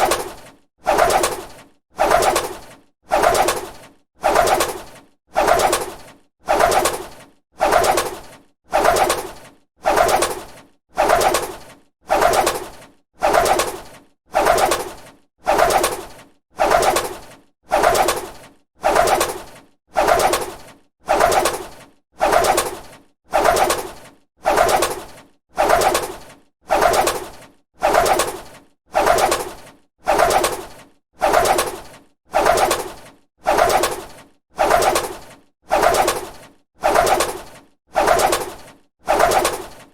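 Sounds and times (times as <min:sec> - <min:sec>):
bird wings flapping: 0:00.0 - 0:39.9.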